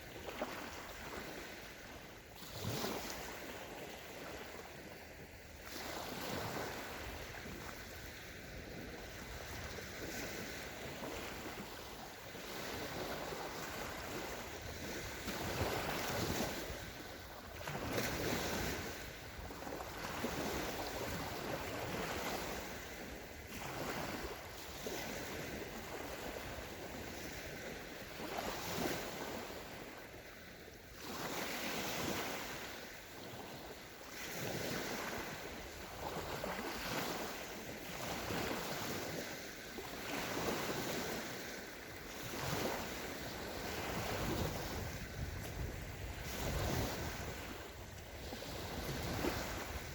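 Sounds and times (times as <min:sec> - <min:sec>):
sea waves breaking on shore: 0:00.0 - 0:49.9
wind noise on microphone: 0:00.0 - 0:49.9.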